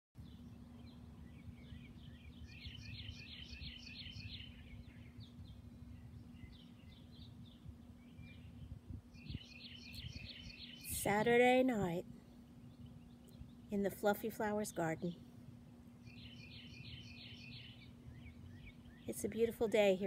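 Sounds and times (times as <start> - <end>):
faint steady hum: 0.2 - 20.0
small birds chirping: 0.2 - 20.0.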